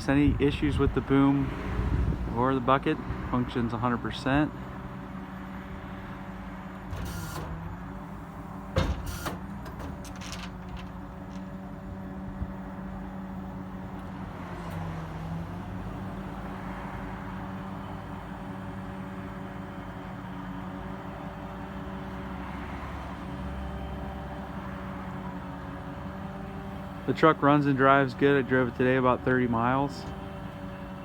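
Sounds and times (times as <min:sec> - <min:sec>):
truck engine running: 0:03.6 - 0:14.4, 0:15.1 - 0:31.0.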